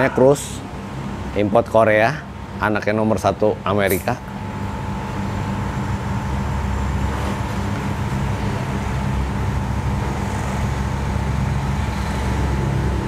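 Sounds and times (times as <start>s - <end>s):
low mechanical rumble and hum: 0.0s - 13.0s
thin steady whine: 0.0s - 13.0s.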